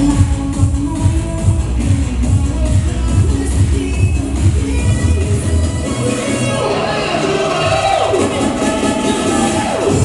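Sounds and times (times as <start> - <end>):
loud dance music with heavy bass: 0.0 - 10.0.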